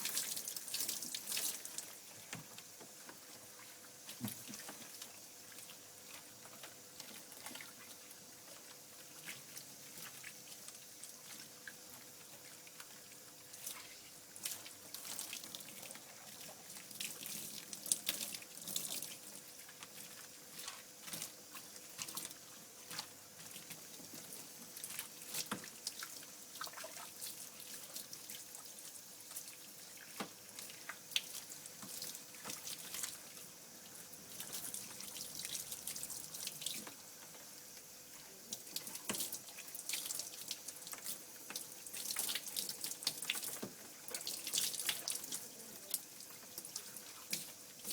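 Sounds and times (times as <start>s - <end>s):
running bath water: 0.0s - 47.9s
water splashes and drips: 0.0s - 47.9s.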